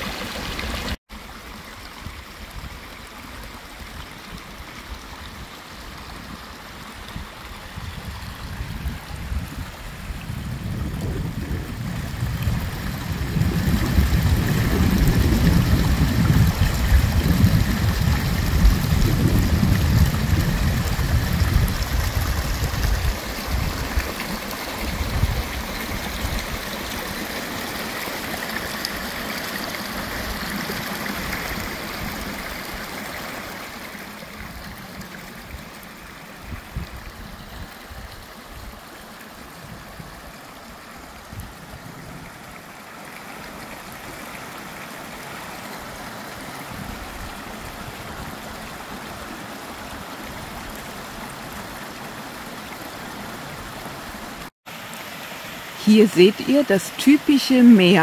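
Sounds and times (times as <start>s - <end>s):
forest stream rippling: 0.0s - 58.0s.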